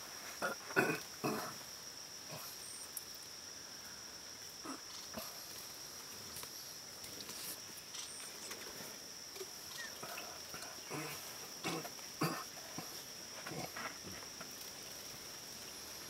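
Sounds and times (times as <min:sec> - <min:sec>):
faint ticks and rustles: 0:00.0 - 0:16.0
high-pitched insect drone: 0:00.0 - 0:16.0.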